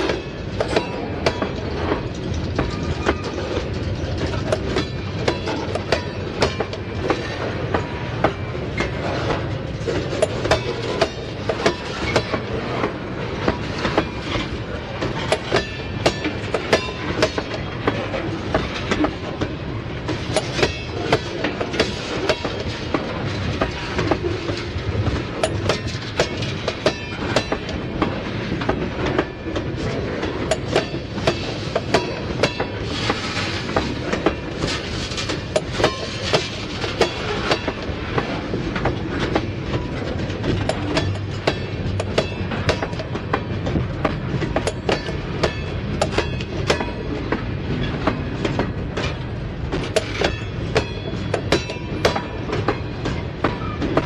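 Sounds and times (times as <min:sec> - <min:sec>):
freight train rolling past: 0:00.0 - 0:54.0
wheel clicks over rail joints: 0:00.0 - 0:54.0.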